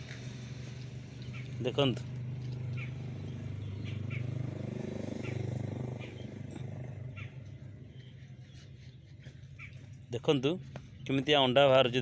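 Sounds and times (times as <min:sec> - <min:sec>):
motor engine humming: 0:00.0 - 0:11.1.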